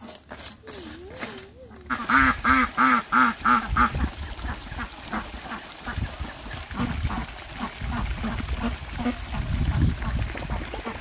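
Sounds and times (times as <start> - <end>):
ducks quacking: 1.2 - 11.0.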